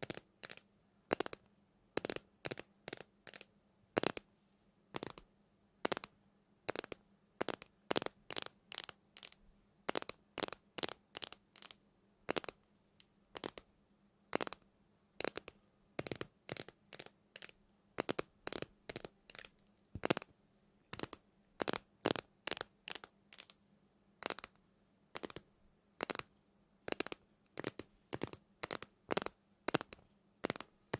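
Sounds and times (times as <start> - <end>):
faint low hum: 0.0 - 30.9.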